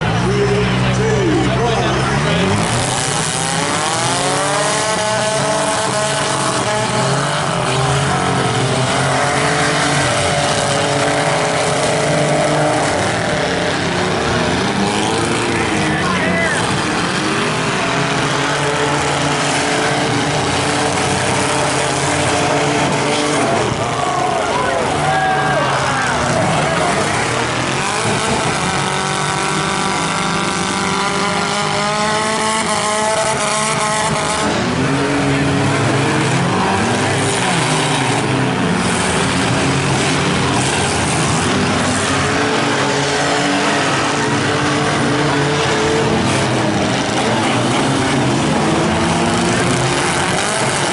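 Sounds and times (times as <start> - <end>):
small car engines revving: 0.0 - 50.9.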